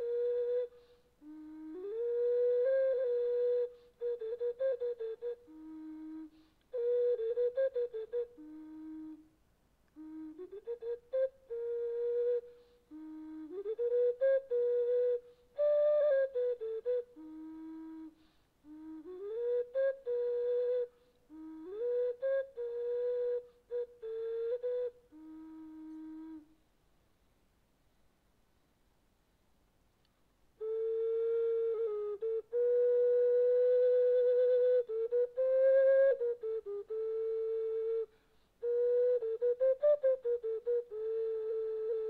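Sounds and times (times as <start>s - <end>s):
solo flute slow melody: 0.0s - 26.8s, 30.5s - 42.0s.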